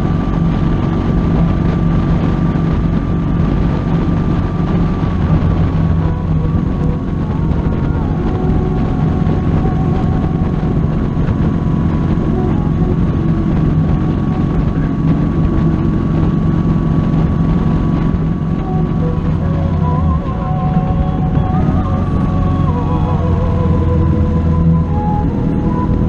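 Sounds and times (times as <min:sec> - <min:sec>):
motorcycle engine running: 0:00.0 - 0:26.0
thin steady whine: 0:00.0 - 0:26.0
wind and road noise: 0:00.0 - 0:26.0.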